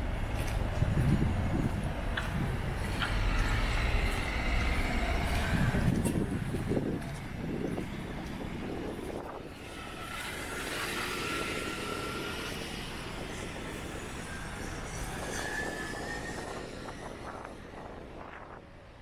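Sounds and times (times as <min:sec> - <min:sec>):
engine whine: 0:00.0 - 0:19.0
road traffic passing: 0:00.0 - 0:19.0.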